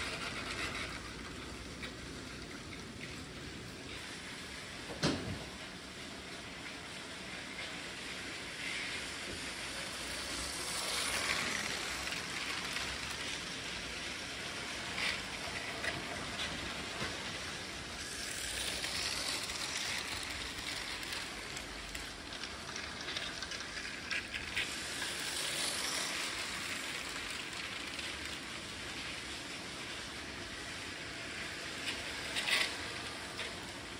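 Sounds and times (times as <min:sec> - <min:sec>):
toy train motors whirring: 0:00.0 - 0:33.9
wheels rattling over rails: 0:00.0 - 0:33.9.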